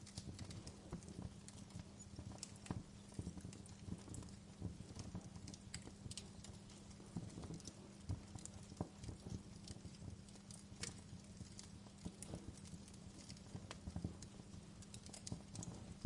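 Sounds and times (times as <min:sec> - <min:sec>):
low steady hum: 0:00.0 - 0:16.0
wood fire crackling and popping: 0:00.0 - 0:16.0.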